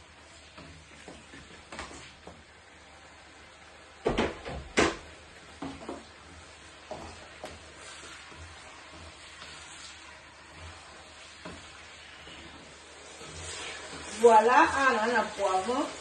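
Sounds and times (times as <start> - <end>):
wooden spatula scraping a wok: 0.0 - 3.3, 5.2 - 16.0.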